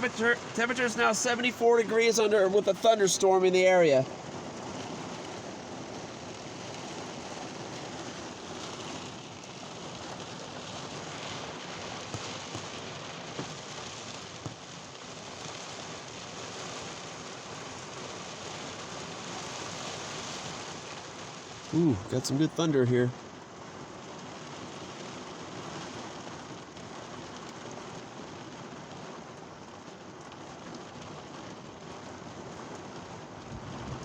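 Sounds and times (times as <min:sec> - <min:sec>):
louder raindrop hits: 0:00.0 - 0:34.0
rain falling: 0:00.0 - 0:34.0.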